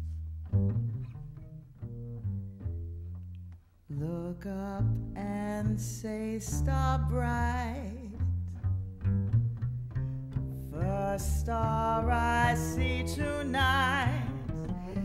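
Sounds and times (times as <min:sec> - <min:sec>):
pizzicato double bass: 0:00.0 - 0:15.0.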